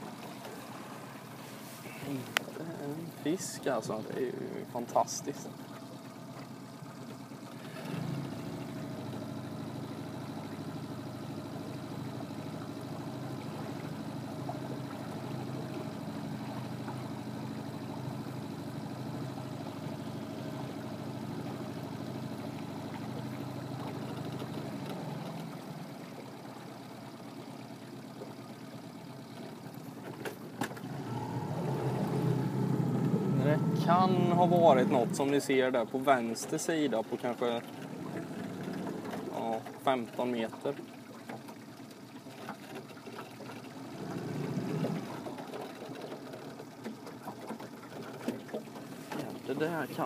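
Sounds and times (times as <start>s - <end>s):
boat motor running: 0.0s - 50.0s.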